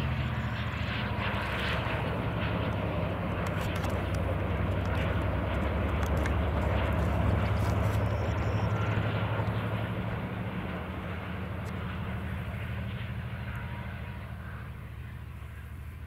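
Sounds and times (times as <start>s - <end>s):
diesel train engine drone: 0.0s - 16.0s.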